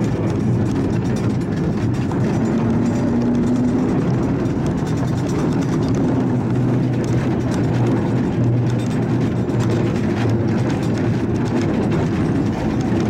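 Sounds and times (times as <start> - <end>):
tram hum: 0.0 - 13.0
wheels rumbling on rails: 0.0 - 13.0.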